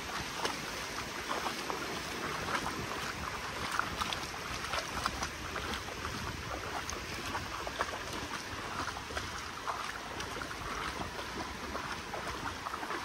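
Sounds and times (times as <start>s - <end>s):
small waves washing onto beach: 0.0s - 13.0s.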